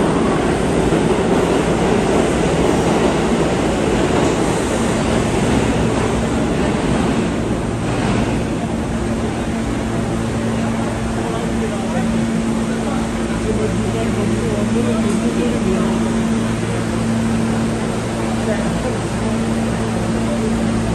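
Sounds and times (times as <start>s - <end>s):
wheels rumbling on rail: 0.0s - 20.9s.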